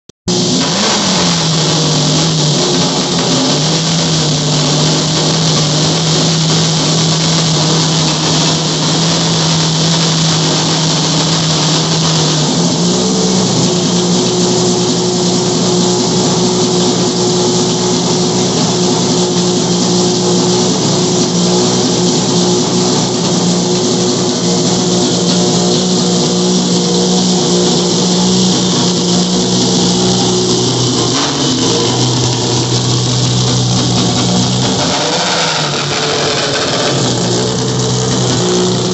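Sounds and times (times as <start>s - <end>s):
race car engine running loudly: 0.3s - 38.9s.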